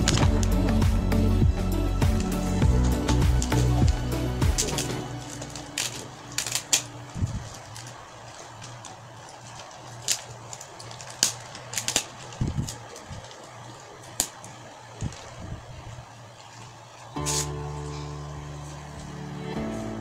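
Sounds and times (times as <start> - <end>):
paper crackling and rustling: 0.0 - 0.7, 2.1 - 19.9
steady low hum: 0.0 - 20.0.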